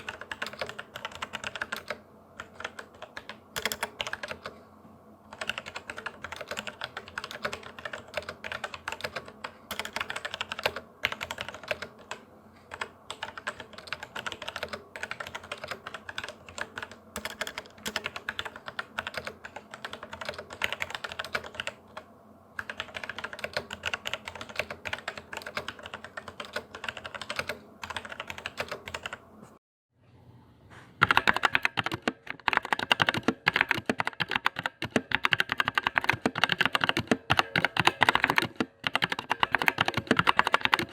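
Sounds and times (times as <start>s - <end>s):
mechanical keyboard typing: 0.0s - 4.5s, 5.3s - 22.0s, 22.6s - 29.2s, 31.0s - 40.9s.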